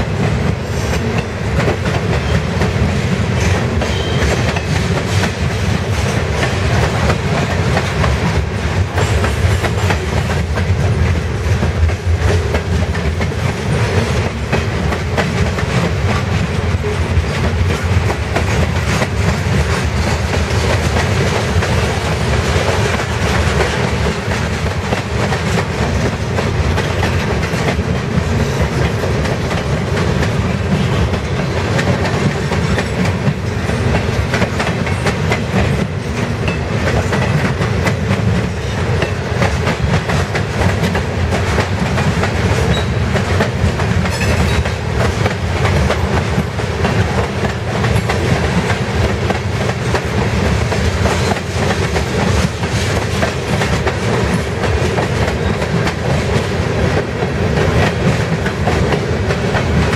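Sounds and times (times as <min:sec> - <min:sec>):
freight train wheels on rail: 0:00.0 - 0:59.9.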